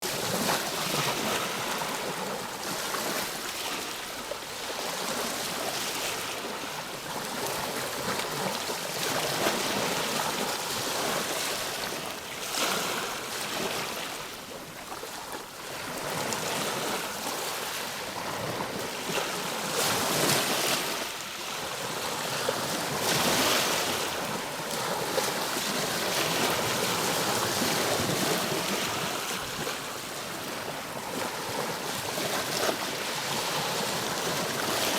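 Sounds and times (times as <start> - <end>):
ocean waves breaking on shore: 0.0 - 34.9.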